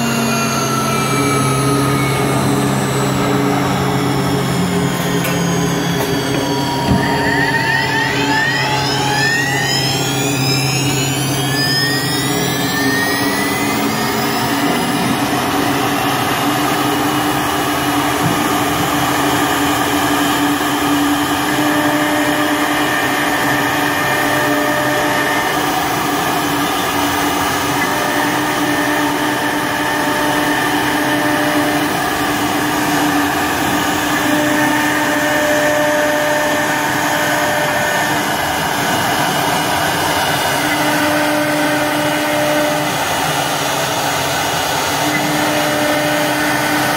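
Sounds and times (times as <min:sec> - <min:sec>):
router bit cutting wood: 0:00.0 - 0:44.0
router spindle whine: 0:00.0 - 0:46.9.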